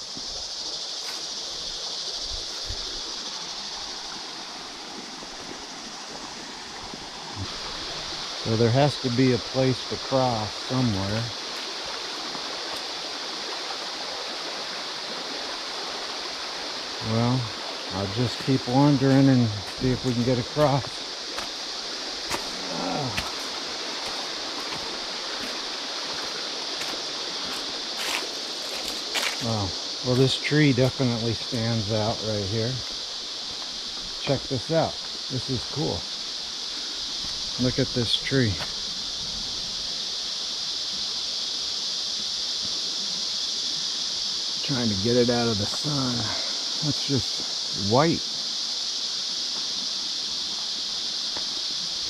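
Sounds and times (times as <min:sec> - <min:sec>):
cicadas droning: 0:00.0 - 0:52.0
creek water over rocks: 0:00.0 - 0:52.0.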